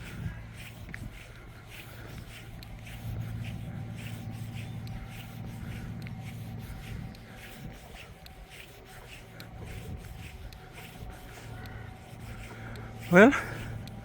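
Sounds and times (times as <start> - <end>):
footsteps walking: 0.0 - 14.0
low steady hum: 0.0 - 14.0.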